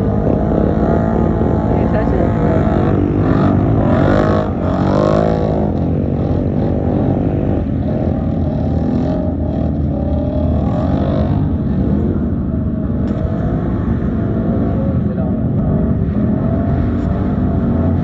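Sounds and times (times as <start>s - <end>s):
racing engines revving: 0.0s - 18.0s.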